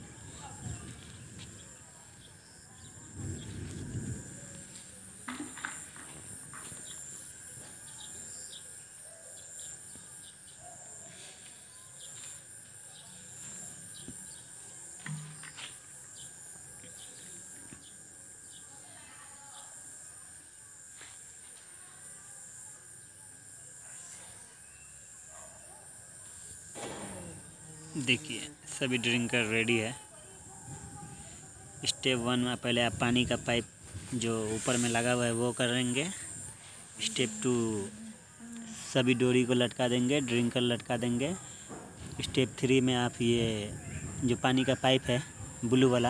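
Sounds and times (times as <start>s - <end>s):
insects droning: 0.0s - 46.0s.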